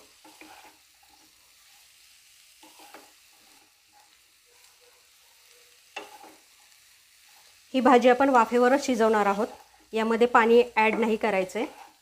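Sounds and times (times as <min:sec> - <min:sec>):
spatula scraping pan: 0:00.0 - 0:04.3, 0:05.8 - 0:12.0
spatula stirring in frying pan: 0:00.0 - 0:12.0
vegetables sizzling: 0:00.0 - 0:12.0.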